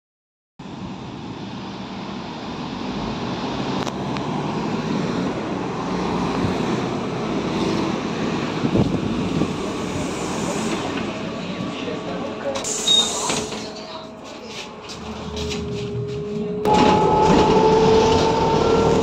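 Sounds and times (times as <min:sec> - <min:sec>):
street traffic noise: 0:00.6 - 0:19.0
trolleybus pulling up: 0:00.6 - 0:19.0.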